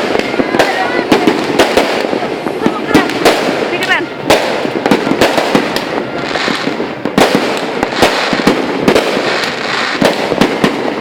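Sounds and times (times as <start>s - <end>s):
fireworks banging: 0.0s - 11.0s
fireworks crackle: 0.0s - 11.0s.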